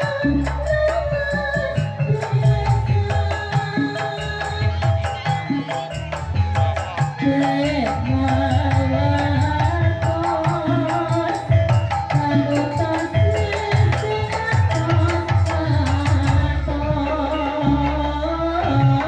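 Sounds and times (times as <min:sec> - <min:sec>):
hand drums beating: 0:00.0 - 0:16.6.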